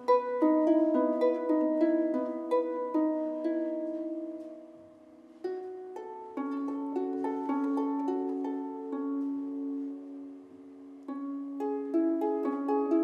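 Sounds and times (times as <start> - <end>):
harp plucked notes: 0.0 - 13.0.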